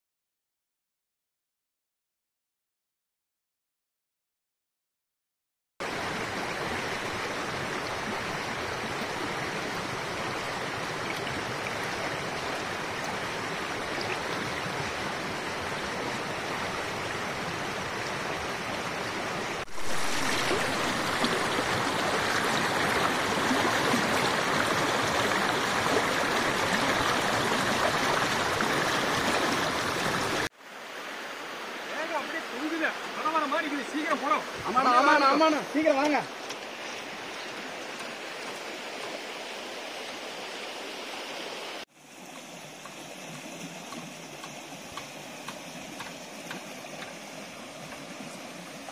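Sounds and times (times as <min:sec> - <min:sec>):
stream rushing over stones: 0:05.8 - 0:48.9.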